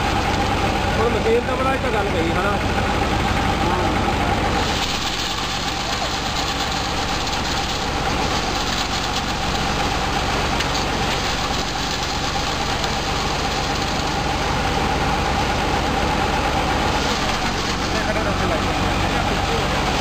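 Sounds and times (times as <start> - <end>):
paddy thresher running: 0.0 - 20.0.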